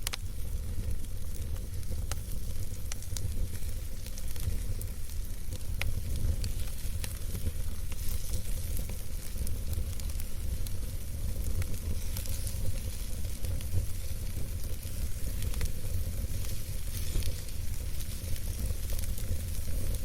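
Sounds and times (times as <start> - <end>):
burning wood crackling and popping: 0.0 - 20.0
low rumble of flames: 0.0 - 20.0.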